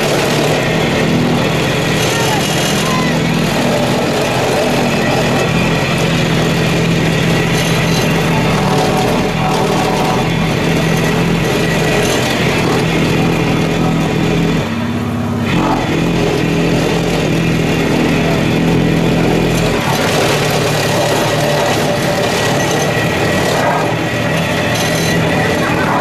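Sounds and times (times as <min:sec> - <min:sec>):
steamroller engine drone: 0:00.0 - 0:26.0.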